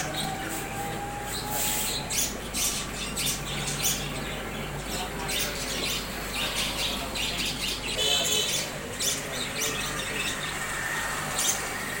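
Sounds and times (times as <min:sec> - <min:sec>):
flock of birds chattering: 0:00.0 - 0:12.0.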